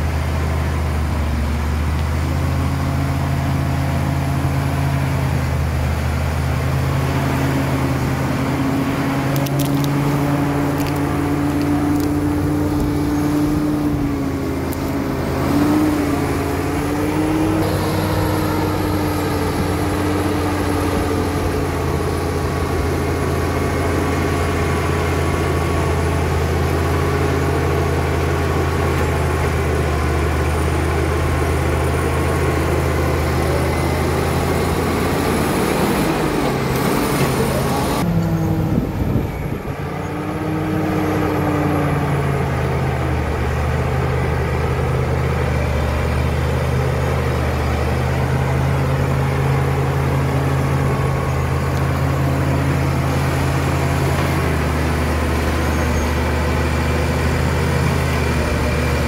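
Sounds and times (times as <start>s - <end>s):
bulldozer diesel engine running: 0.0s - 59.0s
pitched whine: 6.3s - 59.0s.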